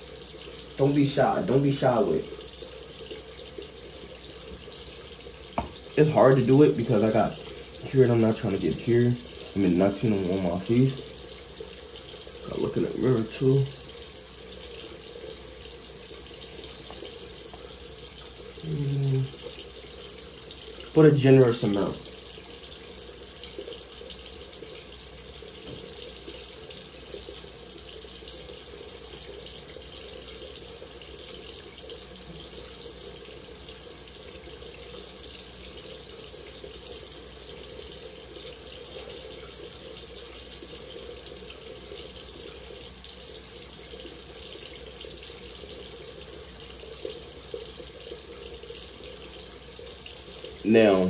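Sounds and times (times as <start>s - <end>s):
faucet water running into sink: 0.0s - 51.0s.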